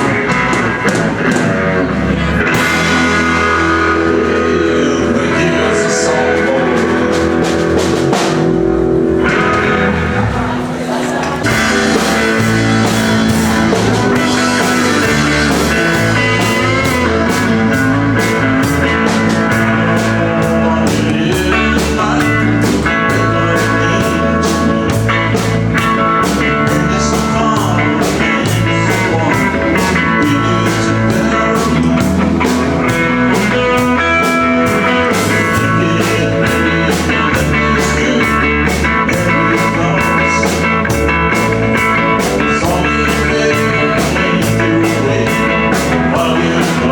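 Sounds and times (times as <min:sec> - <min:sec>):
country-rock band playing: 0:00.0 - 0:46.9.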